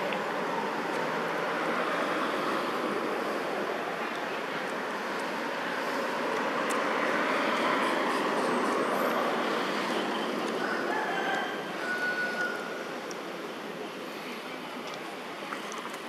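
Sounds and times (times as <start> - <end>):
rushing background noise: 0.0 - 16.0.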